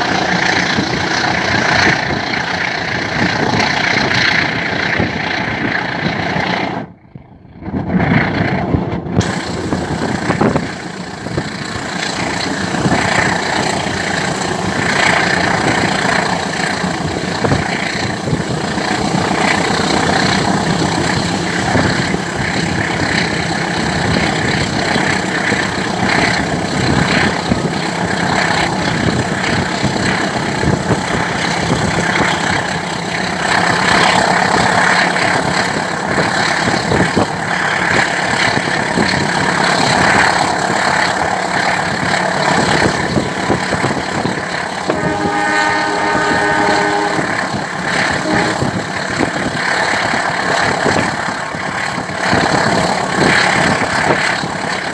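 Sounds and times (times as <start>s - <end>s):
wheel-on-rail noise: 0.0s - 54.9s
wind rush from train window: 0.0s - 54.9s.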